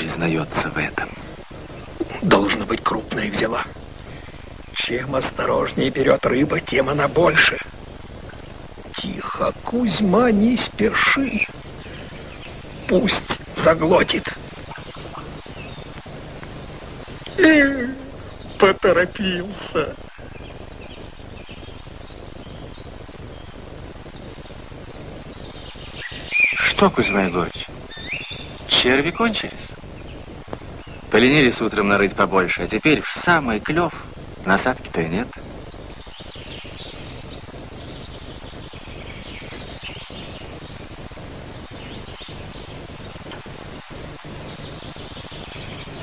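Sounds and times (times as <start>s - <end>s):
faint bird chirps: 0.0s - 46.0s
film soundtrack hiss: 0.0s - 46.0s.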